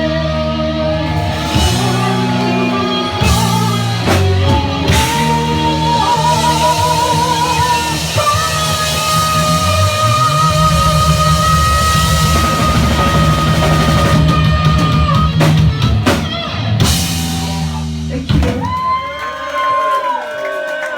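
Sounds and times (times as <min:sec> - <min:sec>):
heavy rock band playing: 0:00.0 - 0:19.2.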